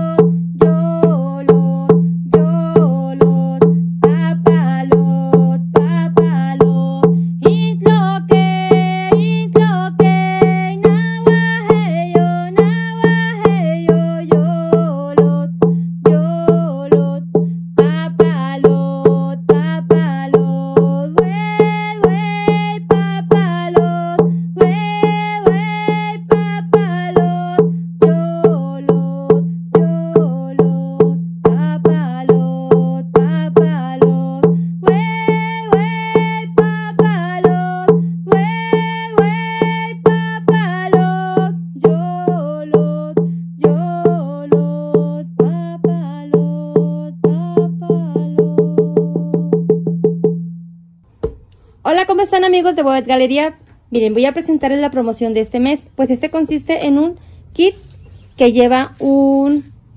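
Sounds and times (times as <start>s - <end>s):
hand drum beaten steadily: 0.0s - 51.4s.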